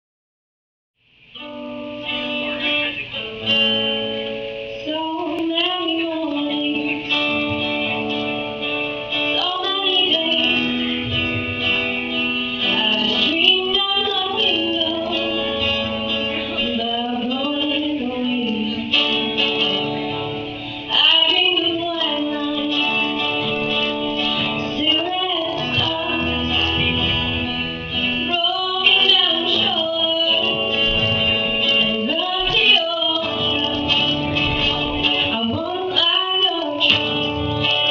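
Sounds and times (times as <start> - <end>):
acoustic guitar: 1.0 - 37.9
woman singing: 4.8 - 11.7, 12.6 - 37.9.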